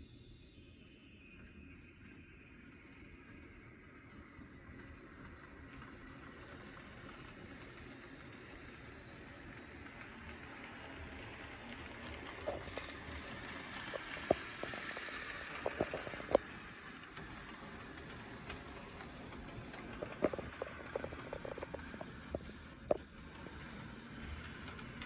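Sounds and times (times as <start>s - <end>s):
model train motor whirring: 4.2s - 25.0s.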